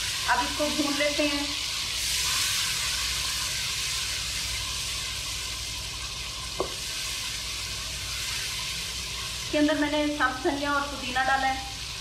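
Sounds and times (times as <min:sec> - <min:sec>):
curry sizzling in oil: 0:00.0 - 0:12.0.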